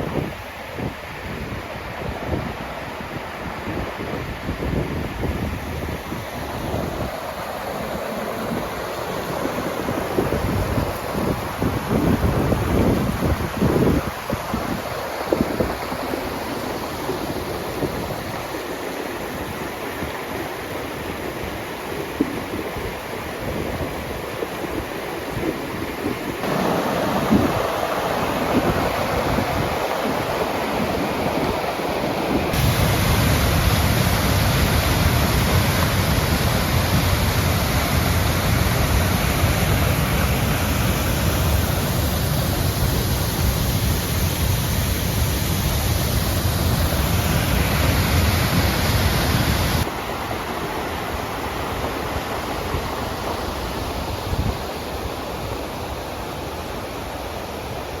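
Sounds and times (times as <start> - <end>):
floodwater rushing: 5.0 - 58.0.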